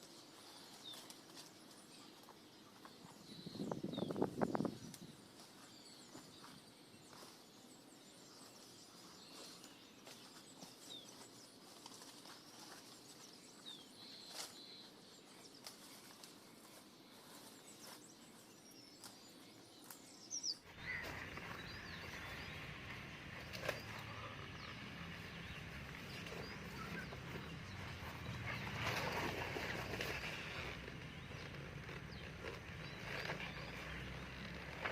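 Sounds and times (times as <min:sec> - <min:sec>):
faint outdoor ambience: 0:00.0 - 0:34.9.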